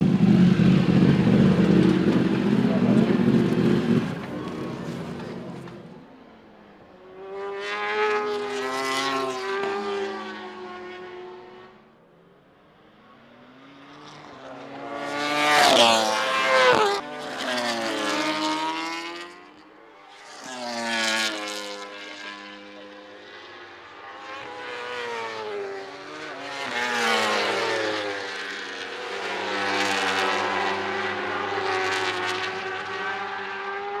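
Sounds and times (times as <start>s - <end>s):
racing motorcycles passing: 0.0s - 34.0s.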